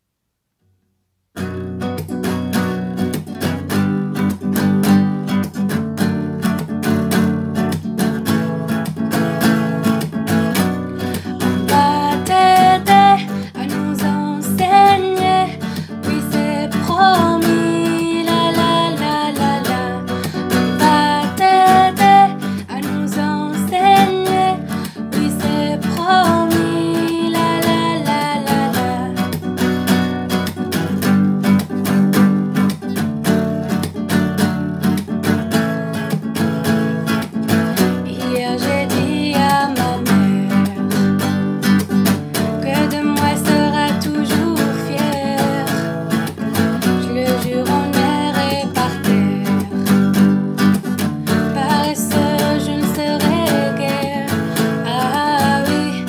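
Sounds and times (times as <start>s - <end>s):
strummed acoustic guitar: 1.4s - 56.0s.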